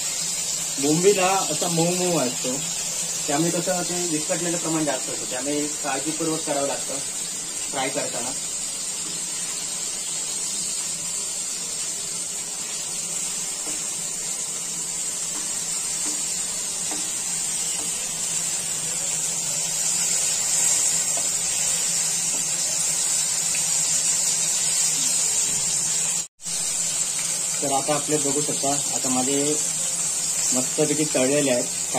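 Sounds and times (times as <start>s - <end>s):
fish sizzling in hot oil: 0.0s - 31.9s.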